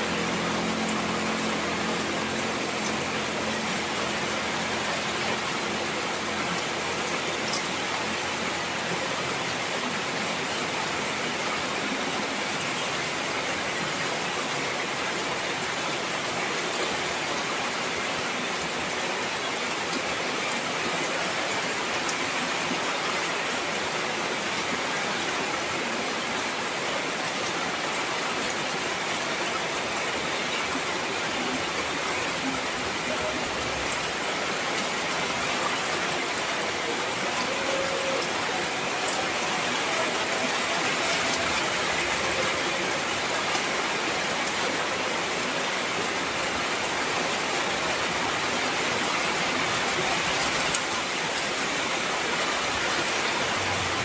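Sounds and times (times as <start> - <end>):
heavy rain hissing: 0.0 - 54.0
raindrops pattering on surfaces: 0.0 - 54.0.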